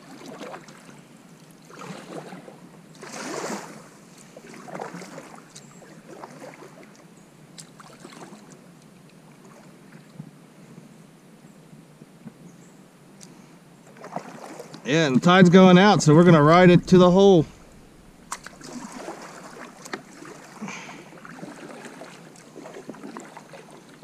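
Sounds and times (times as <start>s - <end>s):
paddle strokes splashing water: 0.0s - 10.2s, 13.9s - 24.0s.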